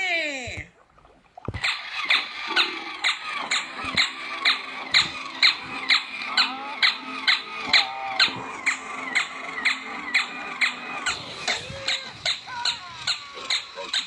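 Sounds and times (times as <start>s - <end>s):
high squeaky tones: 1.6s - 14.0s.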